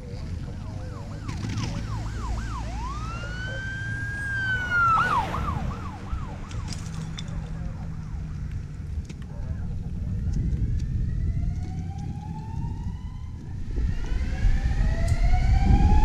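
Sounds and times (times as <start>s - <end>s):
emergency vehicle siren: 0.0s - 16.0s.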